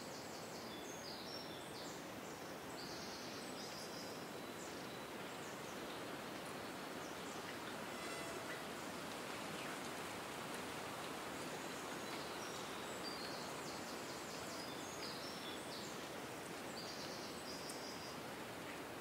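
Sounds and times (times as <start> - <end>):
wind through leaves: 0.0 - 19.0.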